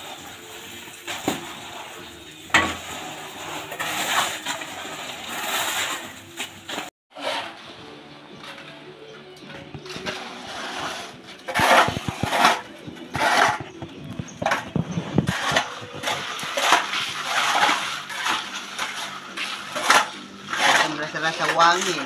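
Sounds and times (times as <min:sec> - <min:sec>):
tools scraping wet concrete: 0:00.0 - 0:22.0.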